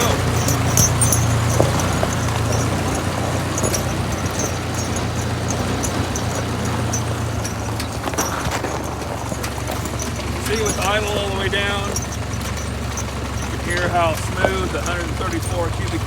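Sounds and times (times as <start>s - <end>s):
light high ticking: 0.0s - 16.0s
tractor engine running: 0.0s - 16.0s.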